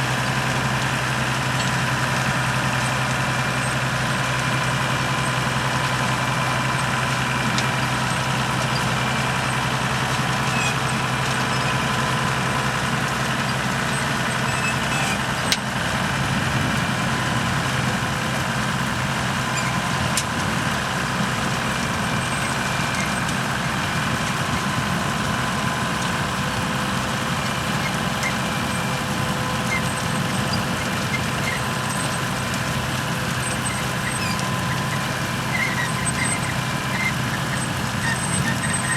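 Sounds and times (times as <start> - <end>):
farm machinery engine hum: 0.0 - 38.9.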